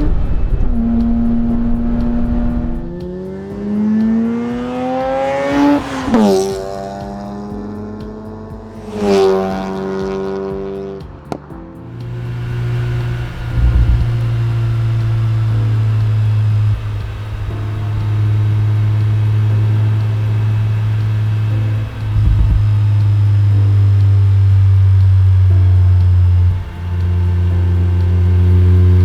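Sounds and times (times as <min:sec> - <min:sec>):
rotary car engine running: 0:00.0 - 0:29.0.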